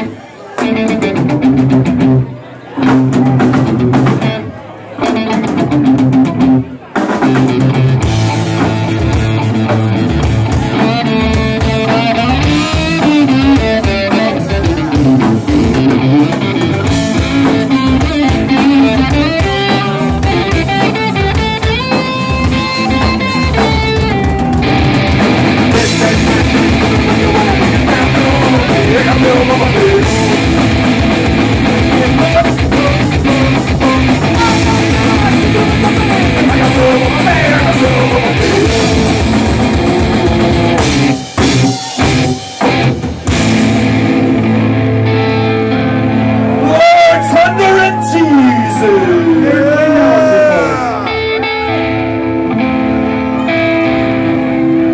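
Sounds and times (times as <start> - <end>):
drum kit: 0.0 - 46.9
bass guitar: 0.0 - 54.9
electric guitar: 0.0 - 54.9.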